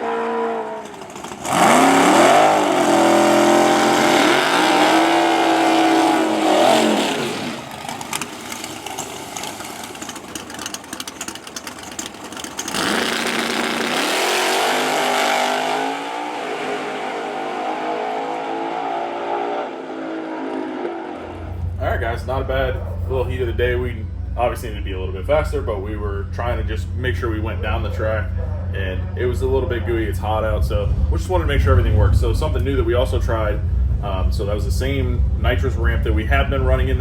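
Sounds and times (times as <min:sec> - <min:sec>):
race car engine at full throttle: 0:00.0 - 0:37.0.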